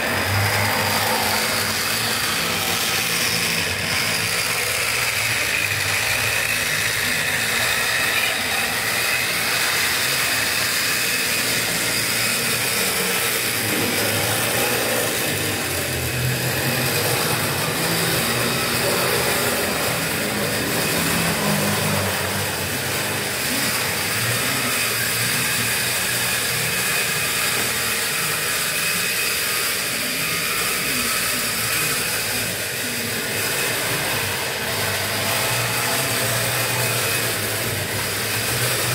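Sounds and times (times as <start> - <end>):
model train running on track: 0.0 - 38.9.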